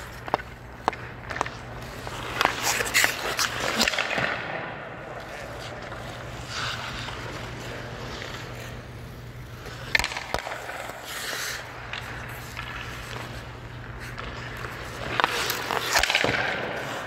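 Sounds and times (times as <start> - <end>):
ice skates scraping on ice: 0.0 - 17.0
steady low hum: 0.0 - 17.0.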